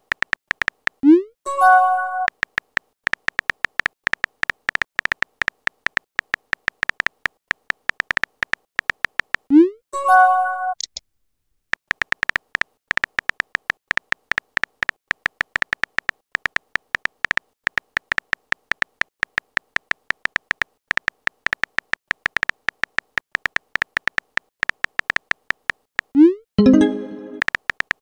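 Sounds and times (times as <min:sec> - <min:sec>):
phone keyboard typing ticks: 0:00.0 - 0:09.5, 0:11.8 - 0:28.0.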